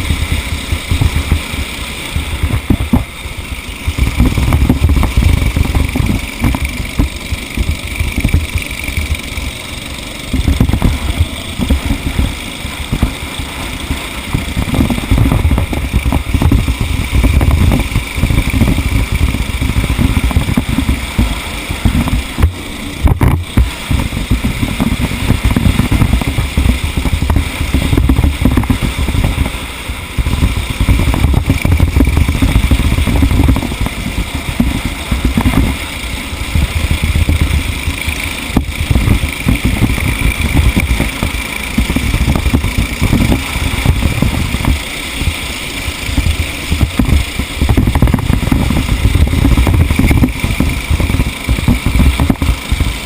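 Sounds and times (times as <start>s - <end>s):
racing vehicle engine rumble: 0.0s - 53.0s.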